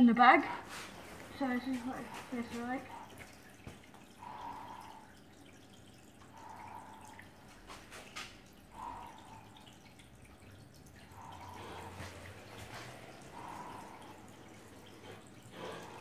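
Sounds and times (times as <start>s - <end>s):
breathing through a gas mask: 0.4s - 5.2s, 6.3s - 10.3s, 11.0s - 16.0s.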